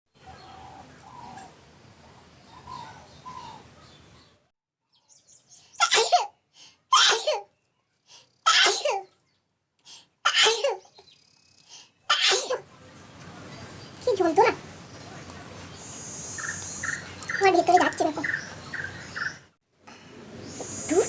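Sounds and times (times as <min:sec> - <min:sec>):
faint background noise: 0:00.2 - 0:21.0.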